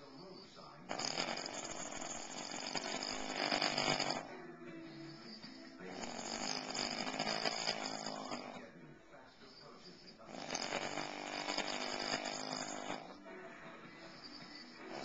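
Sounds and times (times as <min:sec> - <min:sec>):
man snoring: 0:00.8 - 0:08.7, 0:09.9 - 0:15.0
quiet breath: 0:01.7 - 0:15.0.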